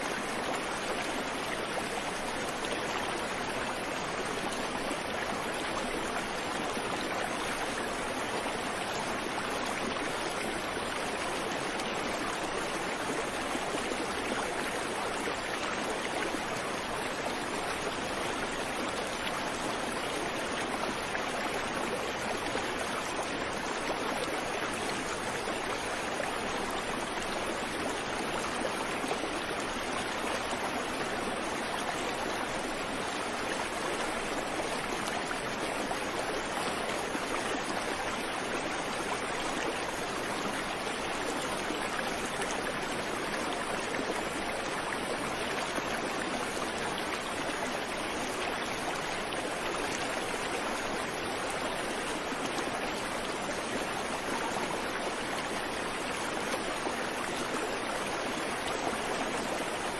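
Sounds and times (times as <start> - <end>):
creek water flowing over rocks: 0.0 - 59.9.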